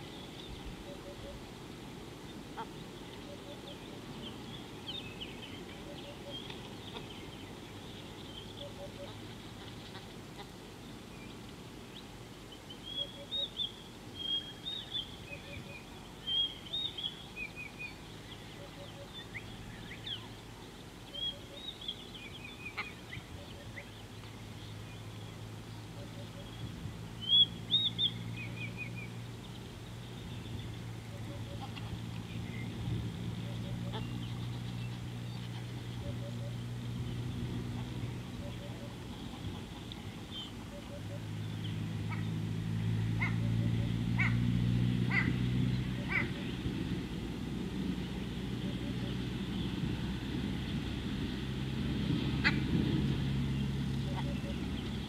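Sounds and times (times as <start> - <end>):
birds chirping: 0.0 - 51.4, 52.1 - 55.0.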